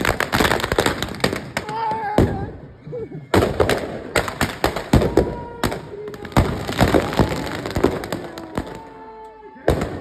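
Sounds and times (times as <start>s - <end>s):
firecrackers bangs and pops: 0.0s - 2.6s, 3.3s - 9.0s, 9.6s - 10.0s.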